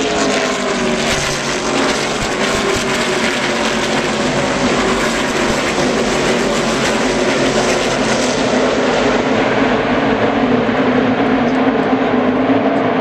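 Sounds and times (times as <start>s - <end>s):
many race car engines roaring: 0.0s - 13.0s.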